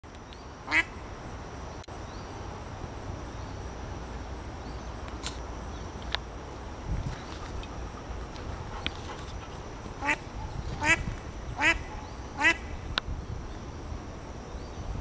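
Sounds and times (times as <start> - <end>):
crickets chirring: 0.1 - 15.0
low outdoor rumble: 0.3 - 15.0.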